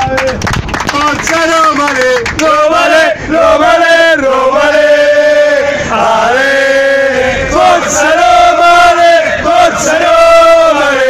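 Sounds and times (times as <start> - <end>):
men singing a chant together: 1.5 - 11.0.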